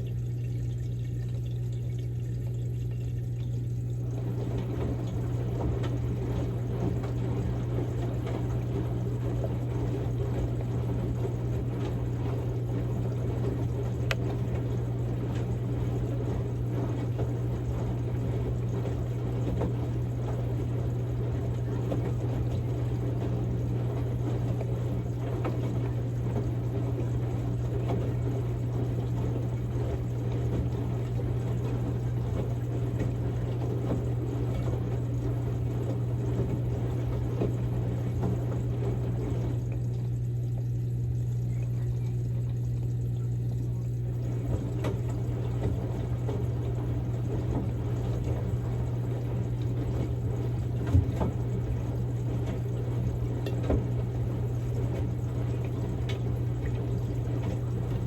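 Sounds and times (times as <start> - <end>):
steady low hum: 0.0 - 58.0
water sloshing in washing machine: 0.0 - 58.0.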